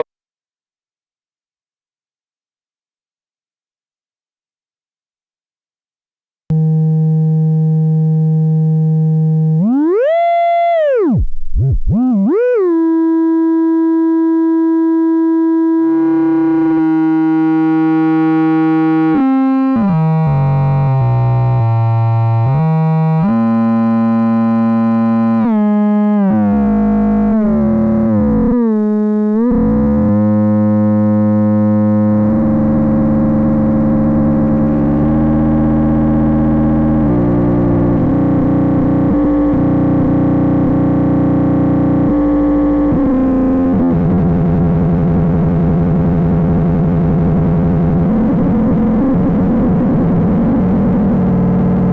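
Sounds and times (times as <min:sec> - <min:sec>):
buzzy synth tone: 0:06.5 - 0:51.9.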